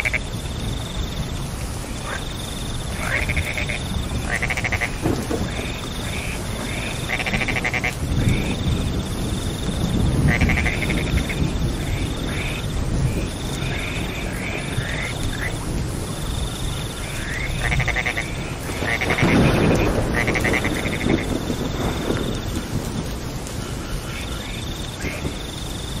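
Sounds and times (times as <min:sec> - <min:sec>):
frogs croaking: 0:00.0 - 0:26.0
steady rain: 0:00.0 - 0:26.0.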